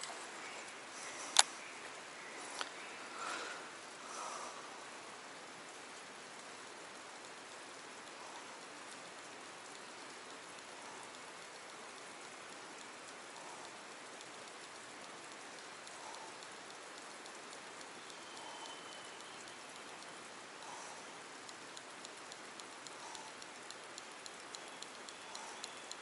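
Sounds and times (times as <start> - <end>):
light ticking: 0.0 - 26.0.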